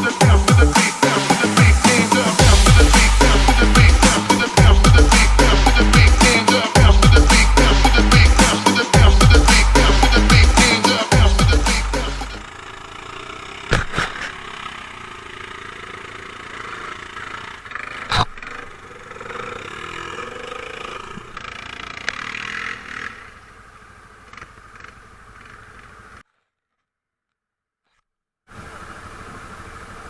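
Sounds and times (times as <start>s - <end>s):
quad bike engine running: 0.0s - 26.2s.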